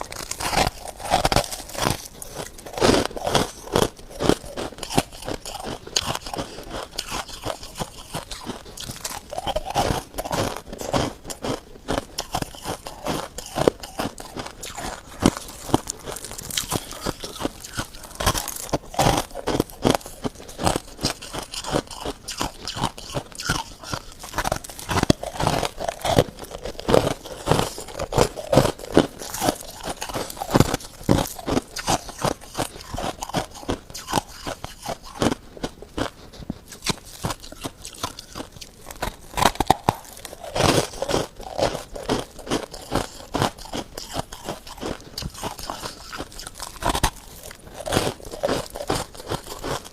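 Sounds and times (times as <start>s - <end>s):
person chewing crunchy frost: 0.0s - 49.9s.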